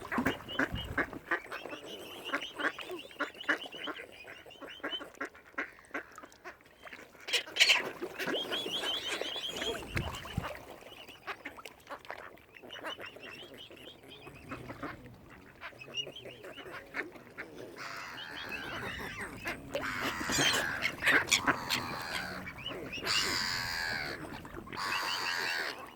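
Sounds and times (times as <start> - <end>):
waterfowl calling: 0.0 - 25.9.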